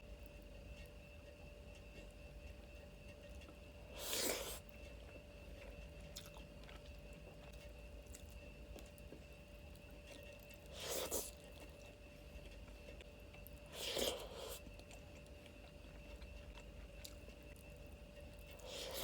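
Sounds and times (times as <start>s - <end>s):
person chewing food: 1.7s - 19.0s
loud eating noise: 3.4s - 19.0s.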